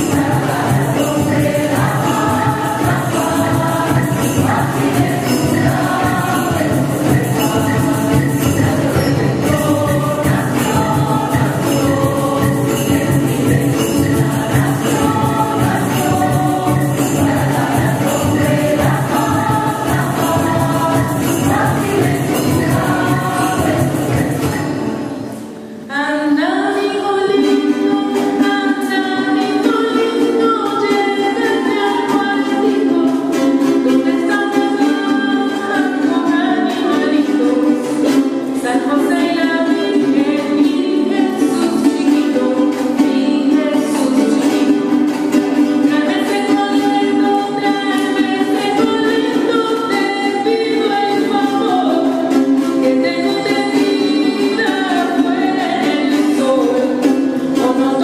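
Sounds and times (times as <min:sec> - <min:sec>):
choir singing: 0:00.0 - 0:58.0
strummed and plucked guitars: 0:00.0 - 0:58.0.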